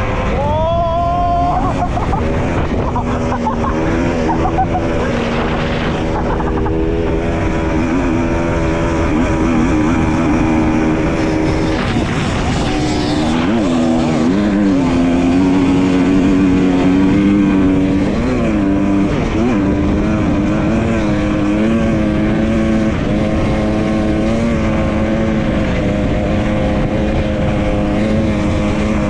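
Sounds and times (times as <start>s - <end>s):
broad rushing noise: 0.0s - 29.0s
dirt bike engine running: 1.5s - 29.0s.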